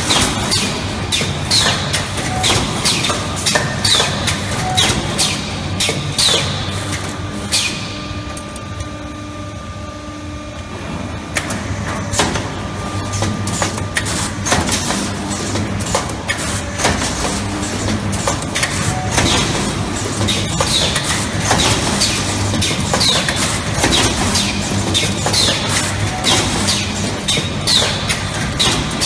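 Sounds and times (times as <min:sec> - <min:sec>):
machine humming: 0:00.0 - 0:29.0.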